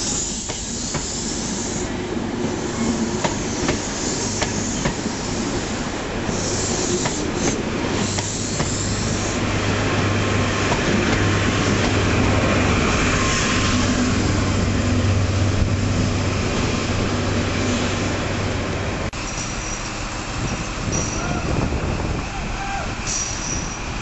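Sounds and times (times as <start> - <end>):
train coaches rumbling and rattling: 0.0 - 24.0.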